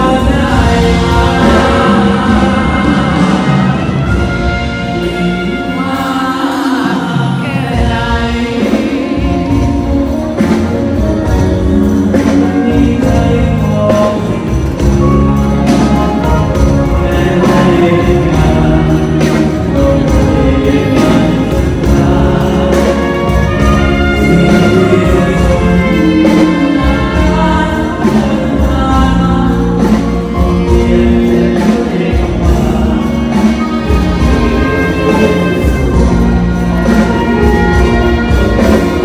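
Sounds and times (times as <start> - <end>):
live band music: 0.0 - 39.0
person singing: 0.0 - 39.0.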